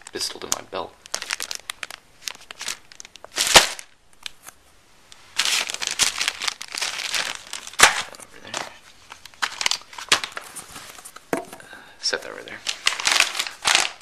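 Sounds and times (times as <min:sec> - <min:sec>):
plastic packaging crinkling: 0:00.0 - 0:04.6, 0:05.2 - 0:14.0.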